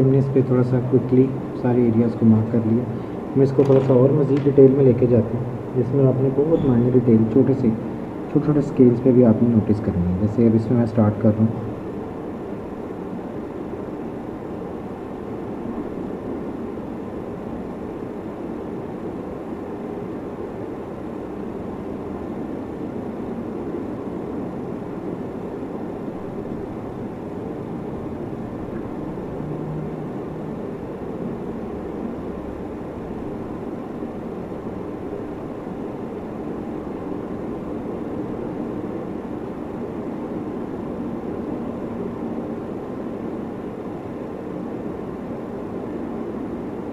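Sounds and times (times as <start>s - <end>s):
droning background noise: 0.0s - 46.9s
faint hum: 0.0s - 46.9s.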